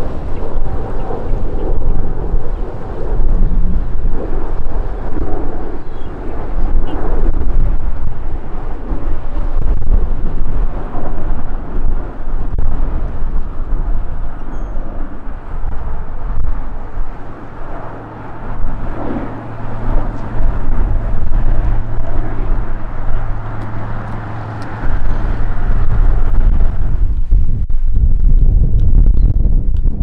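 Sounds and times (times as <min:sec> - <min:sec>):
jet engines roaring overhead: 0:00.0 - 0:28.0
steady low hum: 0:00.0 - 0:30.0
wind buffeting microphone: 0:00.0 - 0:30.0.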